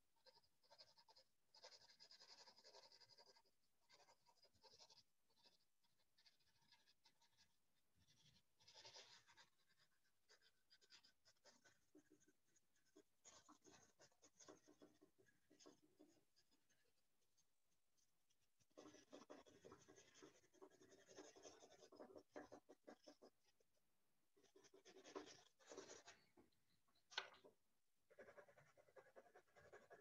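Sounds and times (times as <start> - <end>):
pencil scratching on paper: 0.0 - 26.5, 28.0 - 30.0.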